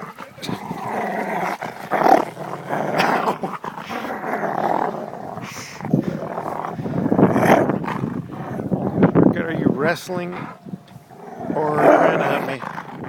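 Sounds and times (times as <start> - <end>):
dog growling: 0.0 - 13.0.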